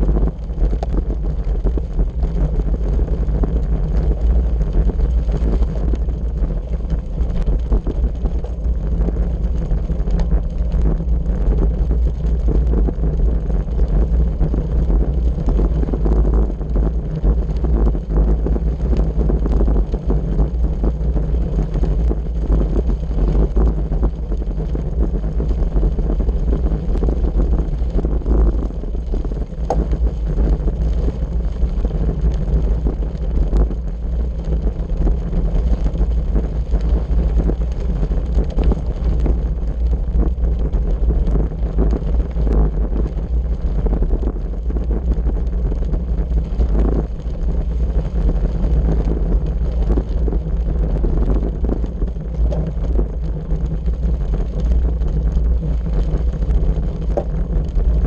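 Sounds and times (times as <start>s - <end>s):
tyres crackling on gravel: 0.0s - 58.0s
wind rumbling on microphone: 0.0s - 58.0s.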